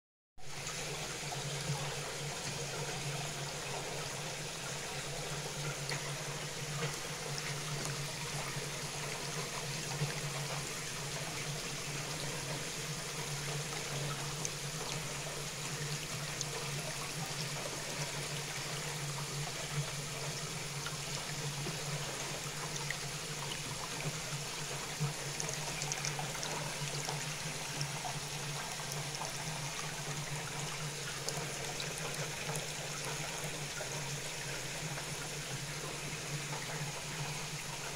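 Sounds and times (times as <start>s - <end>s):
water trickling in a tank: 0.5s - 37.9s.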